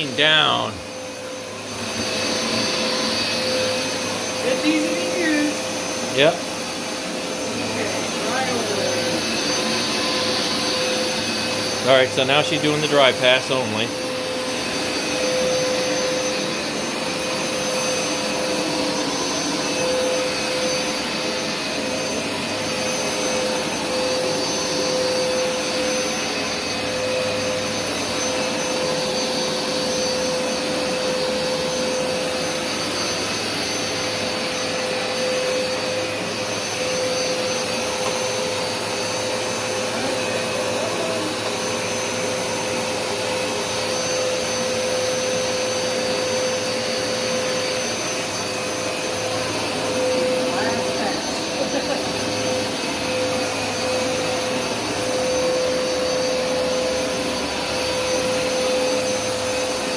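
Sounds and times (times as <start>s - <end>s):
carpet washer suction motor whine: 0.0s - 59.9s.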